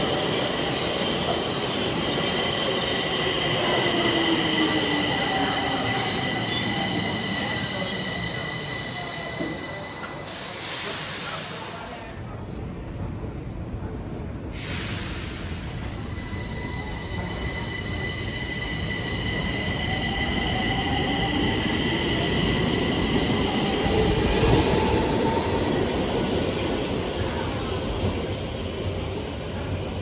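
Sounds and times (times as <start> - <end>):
train wheels squealing: 0.0 - 12.2, 13.0 - 27.6.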